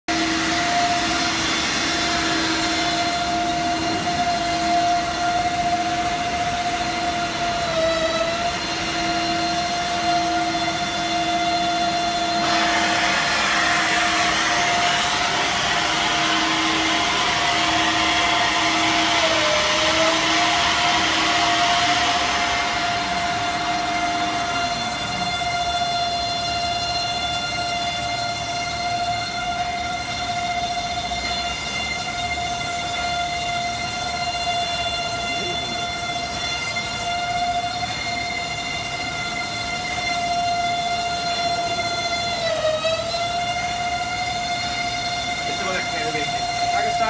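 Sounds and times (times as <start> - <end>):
floor polisher motor whining: 0.1 - 47.0.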